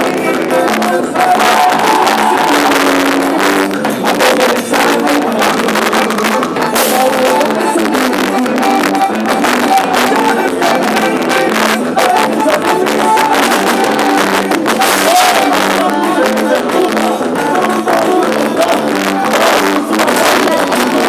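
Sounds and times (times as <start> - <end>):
steady drum beat: 0.0 - 21.0.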